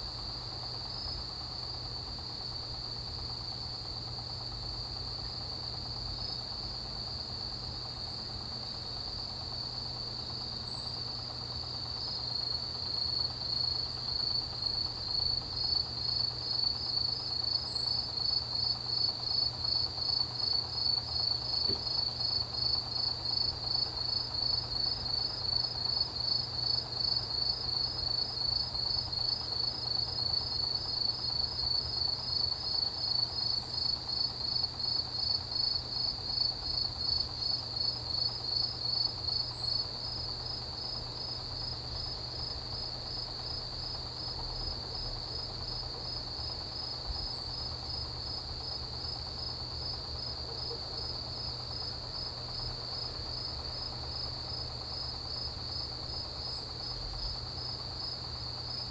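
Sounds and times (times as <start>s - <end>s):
crickets trilling and chirping: 0.0s - 58.9s
faint high-pitched insect chirping: 0.0s - 58.9s.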